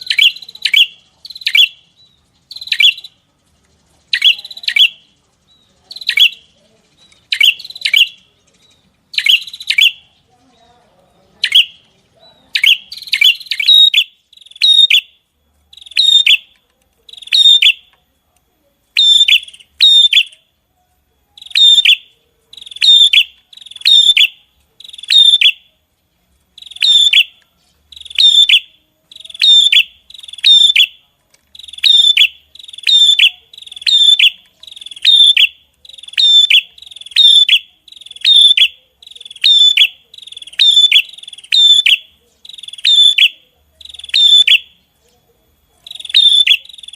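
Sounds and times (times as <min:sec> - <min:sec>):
songbird sharp call notes: 0:00.0 - 0:03.3, 0:04.1 - 0:10.3, 0:11.4 - 0:17.9, 0:19.0 - 0:20.5, 0:21.4 - 0:25.8, 0:26.5 - 0:44.8, 0:45.8 - 0:46.9.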